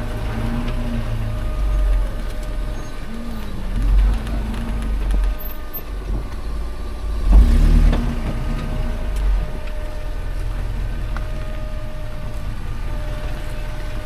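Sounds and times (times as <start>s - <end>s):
off-road vehicle engine low revs: 0.0s - 14.0s.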